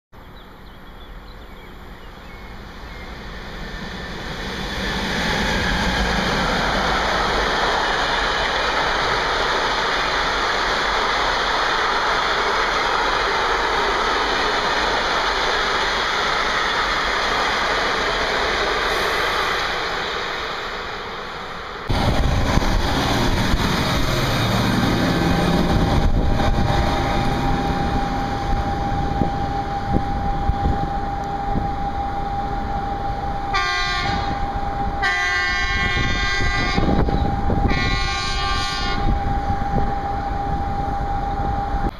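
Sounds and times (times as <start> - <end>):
freight train wheels rolling on rail: 0.2 - 41.9
train running noise from on board: 0.3 - 41.9
steady whine: 2.5 - 35.0, 39.0 - 41.9.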